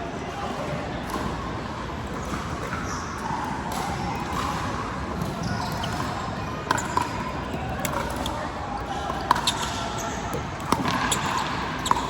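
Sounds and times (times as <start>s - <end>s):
sports hall din: 0.0s - 12.0s.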